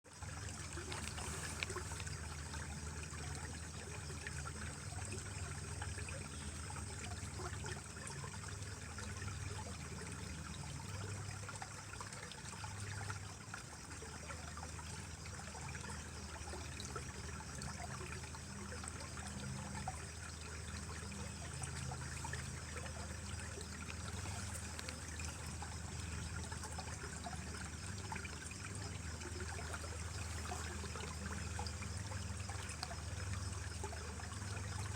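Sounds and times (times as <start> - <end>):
stream trickling over rocks: 0.0 - 34.9.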